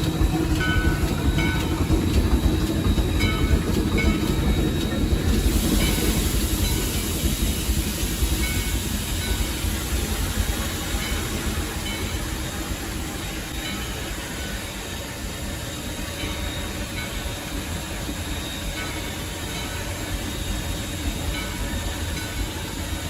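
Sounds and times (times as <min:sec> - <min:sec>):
steam hissing: 0:00.0 - 0:23.0
steam locomotive rumbling: 0:00.0 - 0:23.0.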